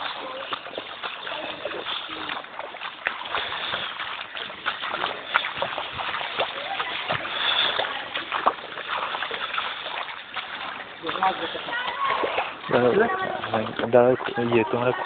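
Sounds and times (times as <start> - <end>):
floodwater splashing and sloshing: 0.0 - 15.0.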